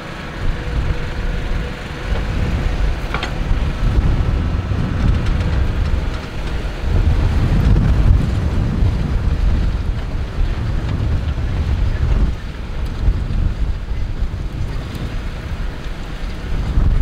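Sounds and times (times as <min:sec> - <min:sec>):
tractor running: 0:00.0 - 0:17.0
wind buffeting microphone: 0:00.0 - 0:17.0.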